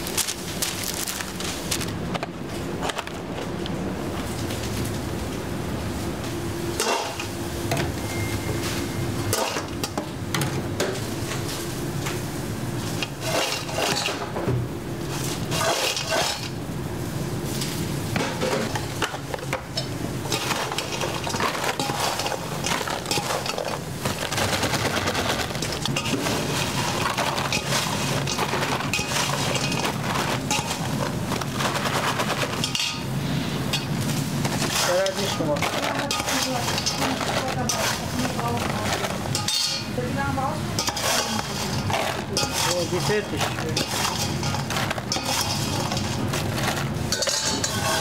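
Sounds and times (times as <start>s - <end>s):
fries rattling in metal bowl: 0.0s - 3.2s, 9.3s - 11.6s, 12.7s - 14.4s, 15.0s - 48.0s
kitchen equipment hum: 0.0s - 48.0s.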